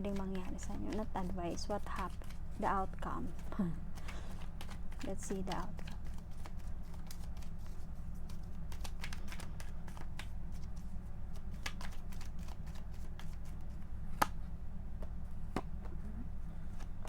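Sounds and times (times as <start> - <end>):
cards being shuffled: 0.0 - 14.4
steady low hum: 0.0 - 17.0.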